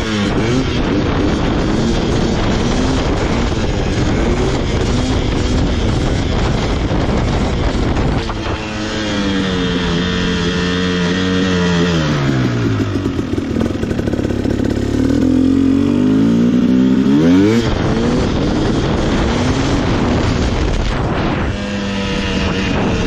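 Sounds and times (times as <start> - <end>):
two-stroke dirt bike engine revving: 0.0 - 23.0.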